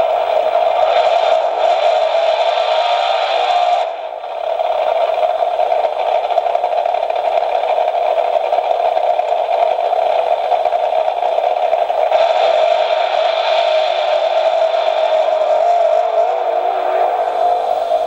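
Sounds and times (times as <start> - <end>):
alarm clock noisy rush: 0.0 - 18.0.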